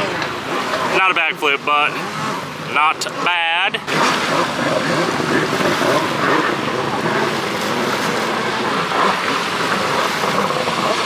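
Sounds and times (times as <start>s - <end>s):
jet ski engine and spray: 0.0s - 11.0s.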